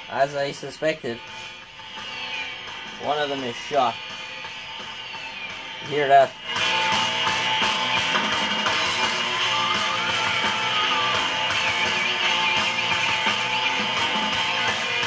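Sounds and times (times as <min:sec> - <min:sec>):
guitar music through damaged speaker: 0:00.0 - 0:15.0.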